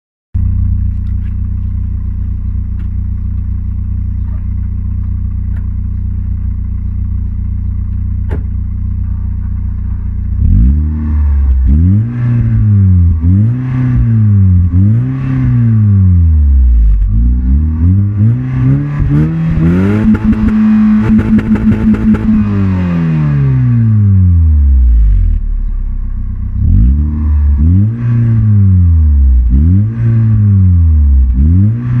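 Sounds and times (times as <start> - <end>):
car engine idling and revving: 0.4 - 32.0.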